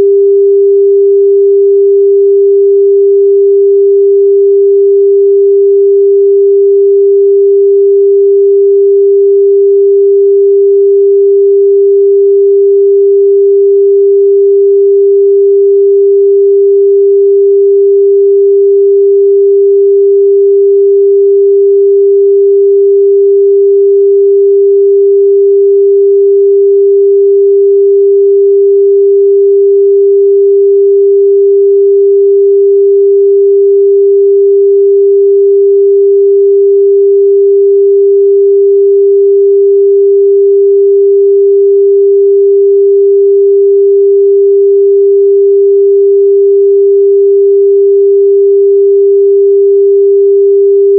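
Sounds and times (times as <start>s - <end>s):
sine wave test tone: 0.0s - 50.9s.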